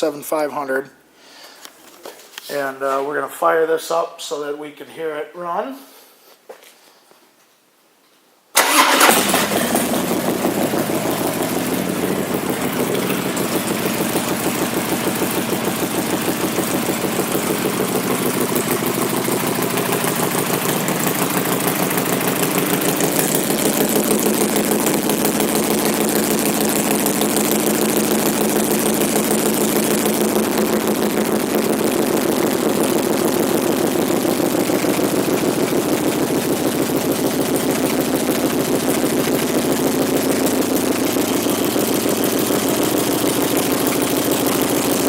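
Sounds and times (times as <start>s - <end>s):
motorcycle engine starting and idling: 8.6s - 45.0s.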